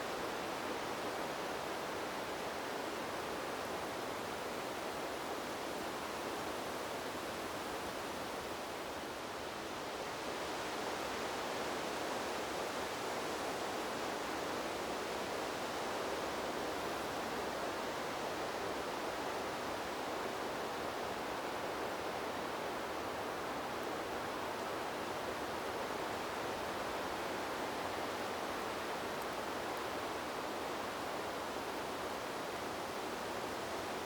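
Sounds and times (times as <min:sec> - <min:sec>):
wind blowing through trees: 0:00.0 - 0:34.0.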